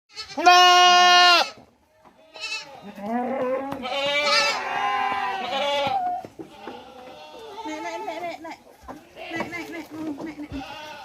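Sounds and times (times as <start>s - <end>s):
goats bleating: 0.1s - 11.0s.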